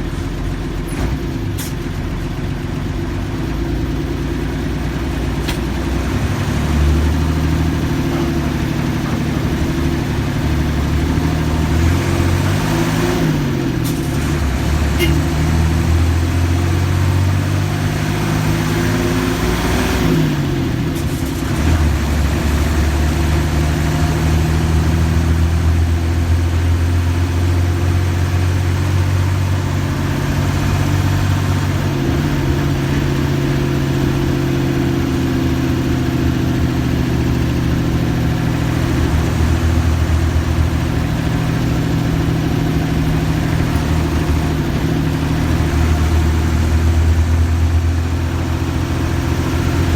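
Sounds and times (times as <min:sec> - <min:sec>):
diesel bus engine running: 0:00.0 - 0:49.9.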